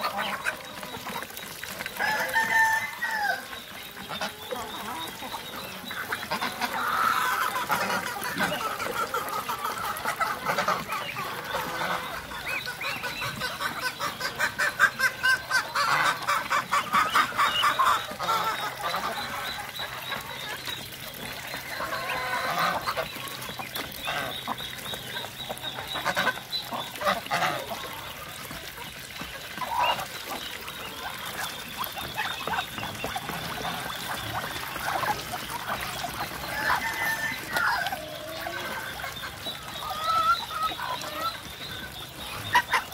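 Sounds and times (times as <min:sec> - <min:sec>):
duck and chicken calls: 0:00.0 - 0:42.9.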